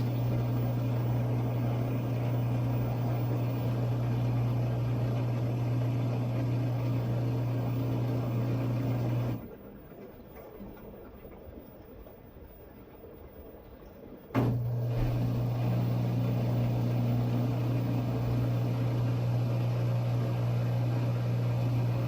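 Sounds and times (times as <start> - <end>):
low hum: 0.0 - 22.0
water rushing into washing machine: 0.0 - 22.0.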